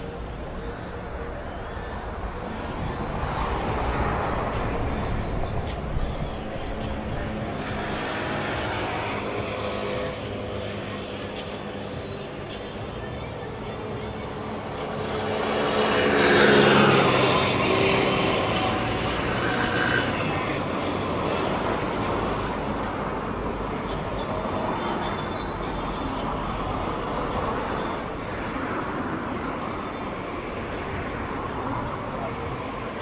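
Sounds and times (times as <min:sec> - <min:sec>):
background traffic noise: 0:00.0 - 0:33.0.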